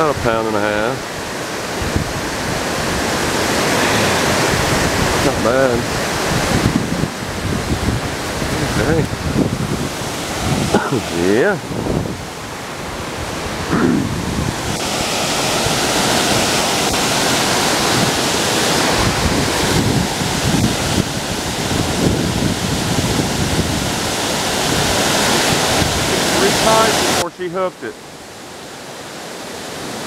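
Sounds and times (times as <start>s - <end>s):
water rushing over a dam: 0.0s - 30.0s
wind buffeting microphone: 1.6s - 26.9s.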